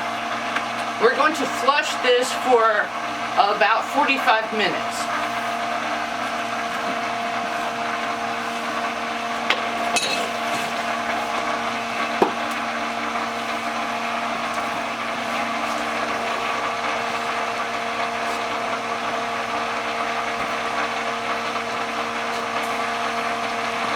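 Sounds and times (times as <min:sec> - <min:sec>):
small pump humming: 0:00.0 - 0:23.9.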